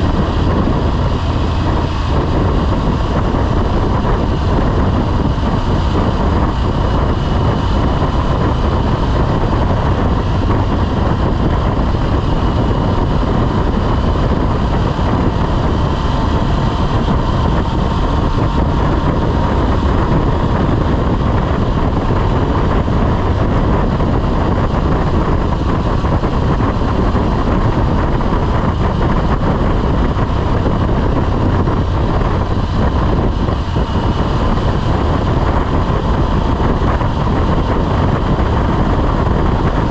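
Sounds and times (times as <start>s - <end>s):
motorcycle engine and road noise: 0.0s - 39.9s
wind rushing over microphone: 0.0s - 39.9s.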